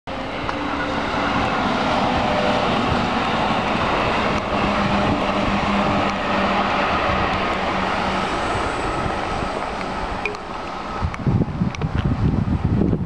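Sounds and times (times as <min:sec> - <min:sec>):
vehicle humming: 0:00.1 - 0:12.4.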